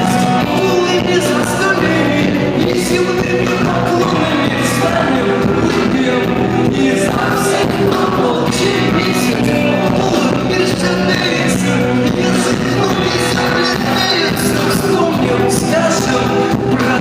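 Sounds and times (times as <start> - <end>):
person singing rock song: 0.0 - 17.0
drum beat: 0.1 - 17.0.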